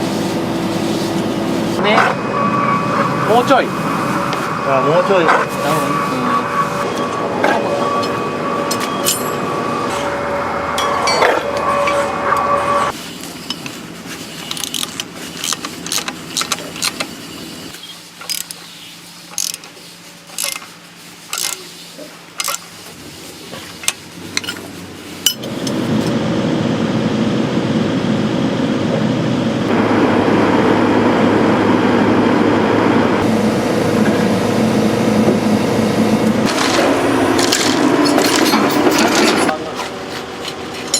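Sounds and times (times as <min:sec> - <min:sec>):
excavator engine and hydraulics: 0:00.0 - 0:40.9.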